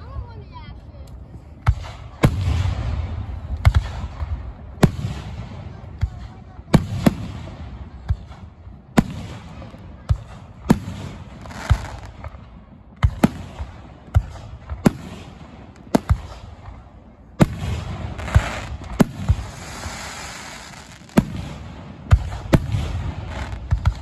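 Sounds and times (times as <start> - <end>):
hissing crackle of fireworks: 1.2 - 24.0.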